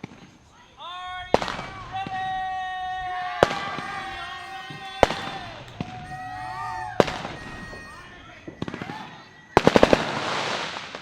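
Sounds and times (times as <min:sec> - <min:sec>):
fireworks bangs: 0:00.9 - 0:11.0.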